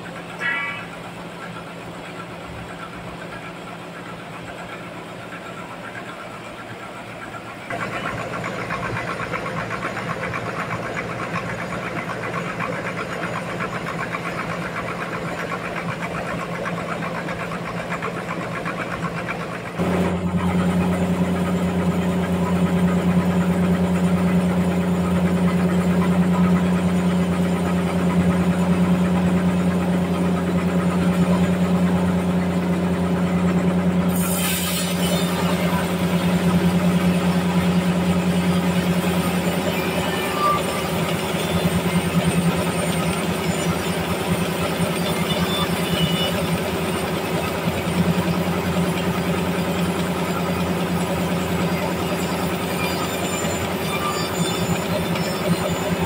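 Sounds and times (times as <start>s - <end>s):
band sawmill machine hum: 0.0s - 56.0s.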